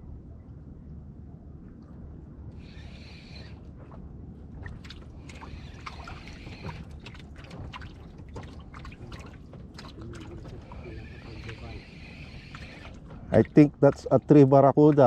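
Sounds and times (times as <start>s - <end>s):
water splashing and trickling: 1.7s - 15.0s.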